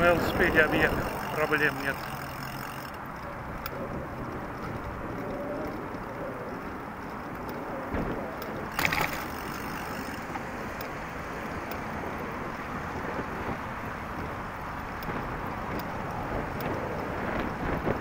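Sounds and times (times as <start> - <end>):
wind on microphone: 0.0 - 2.0, 3.4 - 9.6, 11.4 - 18.0
bicycle rattle: 0.0 - 18.0
traffic rushing: 0.0 - 18.0.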